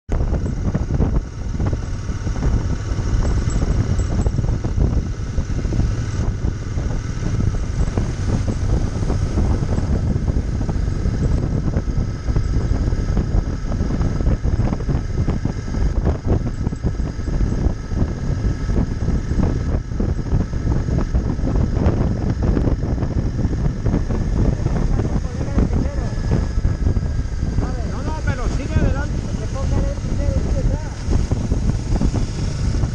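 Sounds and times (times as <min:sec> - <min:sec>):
motorcycle engine running: 0:00.1 - 0:32.9
wind buffeting microphone: 0:00.1 - 0:32.9.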